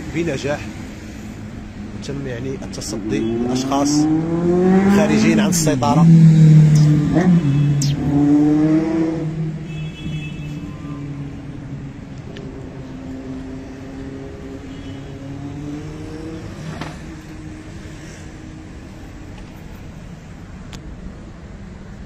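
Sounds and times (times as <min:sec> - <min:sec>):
car engines passing: 0:00.0 - 0:22.0.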